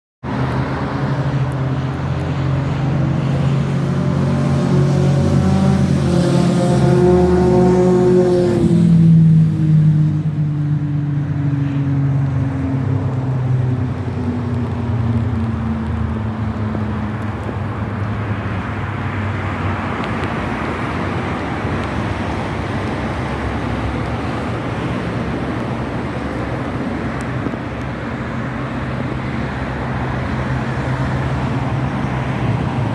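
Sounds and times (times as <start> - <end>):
road noise hiss: 0.2 - 32.9
vehicle engine rumble: 0.2 - 32.9.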